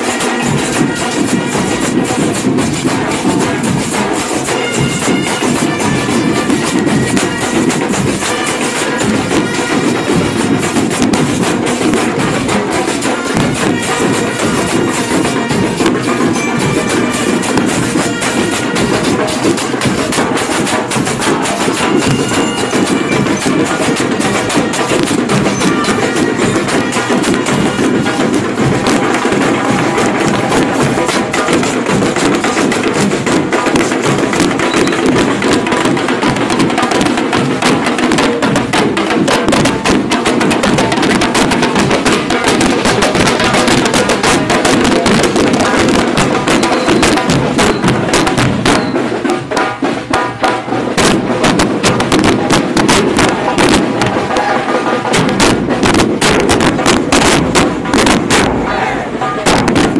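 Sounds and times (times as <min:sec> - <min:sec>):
bass drums beating: 0:00.0 - 0:59.9
snare drums beating: 0:00.0 - 0:59.9.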